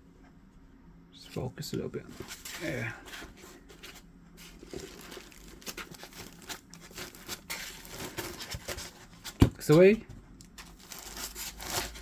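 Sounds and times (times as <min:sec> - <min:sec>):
packaging rustling and crinkling: 0:02.0 - 0:12.0.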